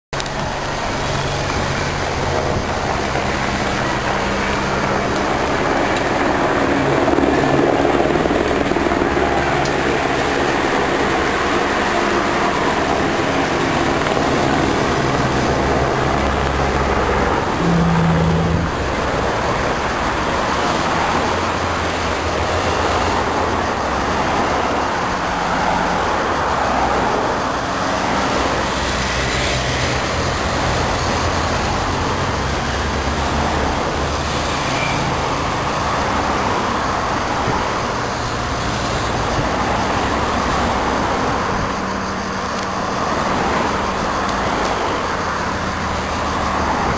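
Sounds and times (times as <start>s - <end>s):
tyre and road noise: 0.1s - 46.9s
motorcycle and car engines passing: 0.2s - 46.9s.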